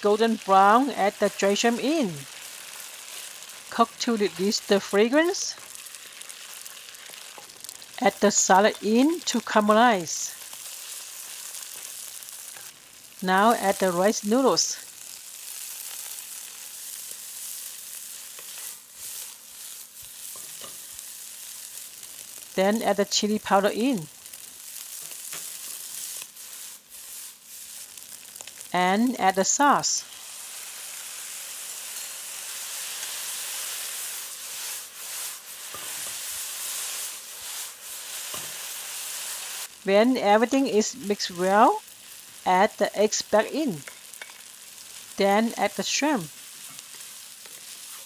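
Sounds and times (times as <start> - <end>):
noodles sizzling in a wok: 0.0 - 48.0.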